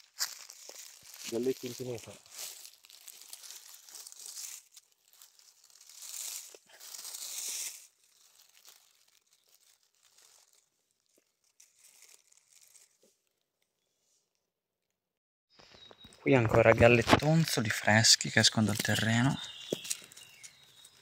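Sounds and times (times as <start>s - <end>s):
dry leaves crackling and rustling: 0.0s - 13.4s, 16.6s - 21.0s.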